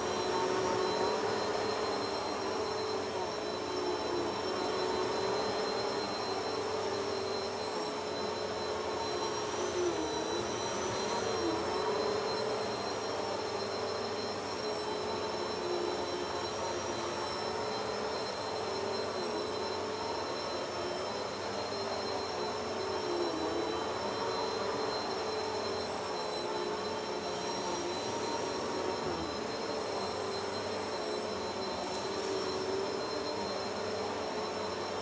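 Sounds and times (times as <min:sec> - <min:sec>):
vacuum cleaner running: 0:00.0 - 0:35.0.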